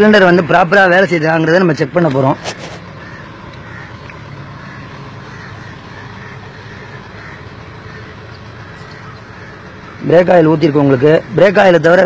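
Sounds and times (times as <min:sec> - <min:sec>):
low background rumble and hiss: 0:00.0 - 0:12.0.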